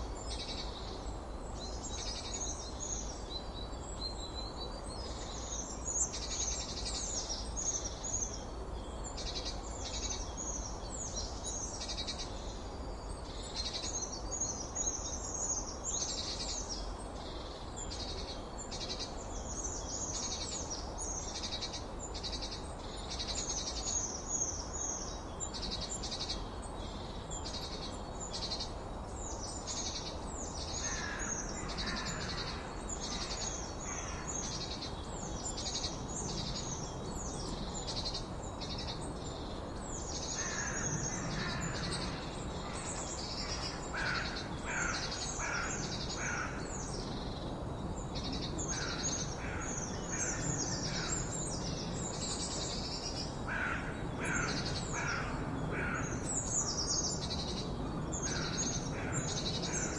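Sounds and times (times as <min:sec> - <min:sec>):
songbirds chirping and trilling: 0:00.0 - 0:59.9
steady background noise: 0:00.0 - 0:59.9.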